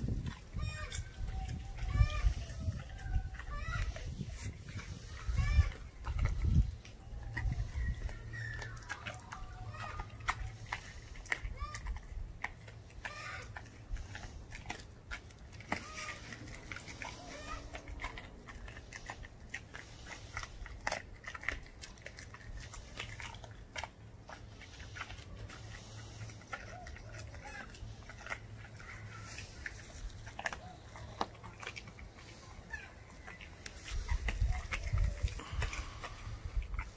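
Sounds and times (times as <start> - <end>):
puppy chewing bone crunching: 0.0 - 36.9.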